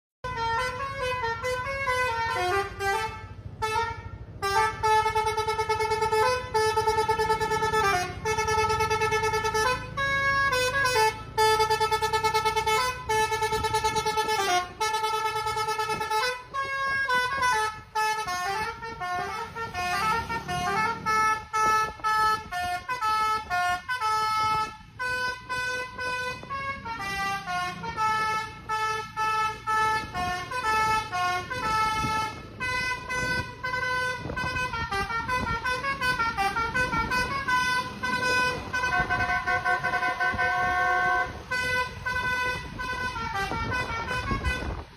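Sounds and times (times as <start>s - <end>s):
musical bus horn tune: 0.2s - 44.9s.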